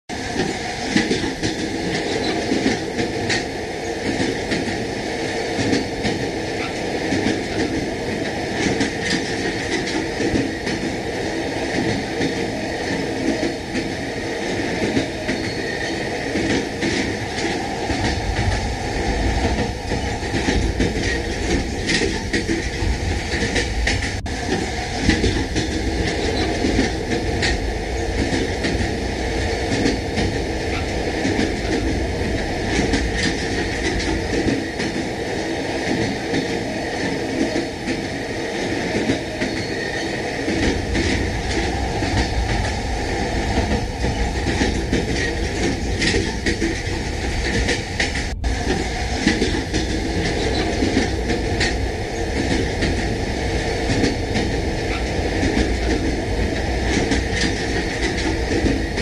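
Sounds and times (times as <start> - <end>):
train rumbling and rattling: 0.1 - 59.0
train wheel clicks: 0.2 - 59.0.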